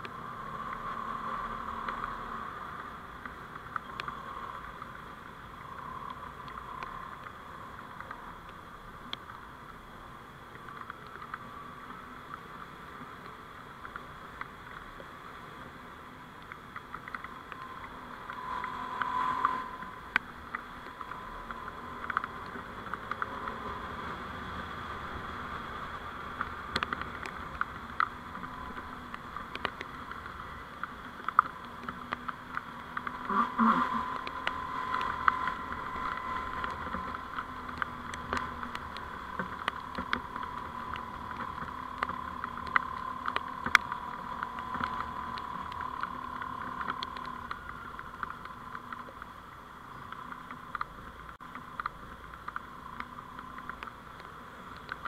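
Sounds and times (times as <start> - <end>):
faint clicks: 0.0 - 23.8, 24.8 - 55.0
constant whine: 0.0 - 55.0
vehicle driving noise: 0.0 - 55.0.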